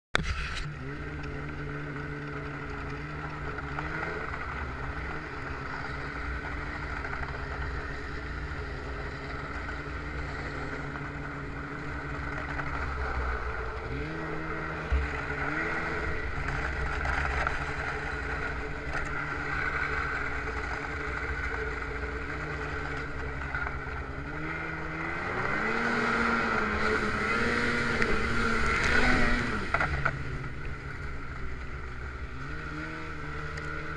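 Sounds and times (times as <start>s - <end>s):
snowmobile engine revving: 0.2s - 33.9s.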